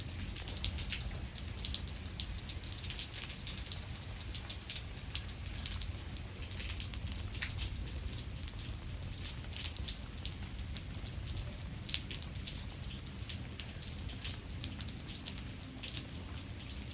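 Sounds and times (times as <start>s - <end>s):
raindrops striking a surface: 0.0s - 16.9s.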